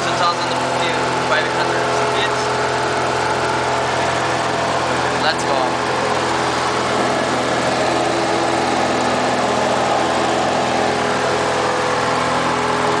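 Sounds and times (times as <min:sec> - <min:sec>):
propeller aircraft engine droning: 0:00.0 - 0:13.0.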